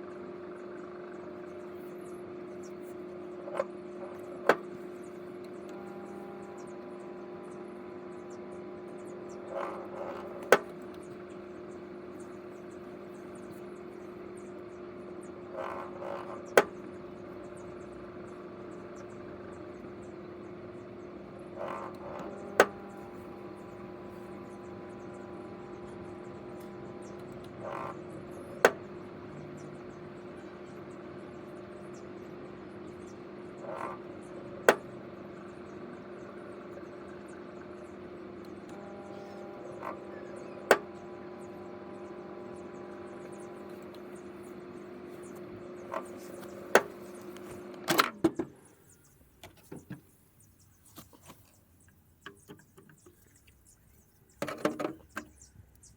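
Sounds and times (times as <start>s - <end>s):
microwave oven humming: 0.0s - 50.8s.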